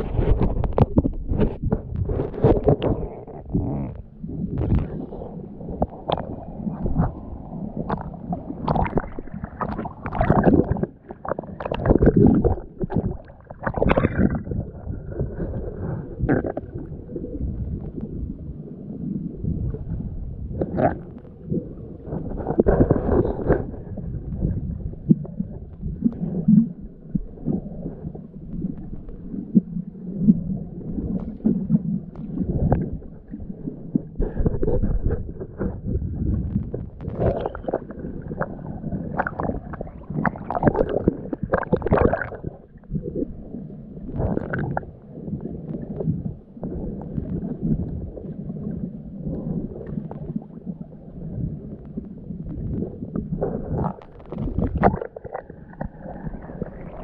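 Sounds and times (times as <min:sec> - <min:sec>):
muffled water sloshing: 0:00.0 - 0:57.0.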